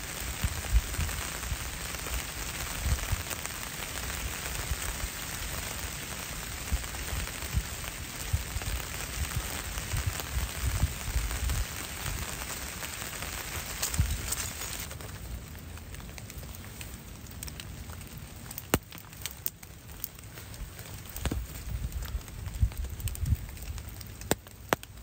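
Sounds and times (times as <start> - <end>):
rain falling on leaves: 0.0 - 25.0.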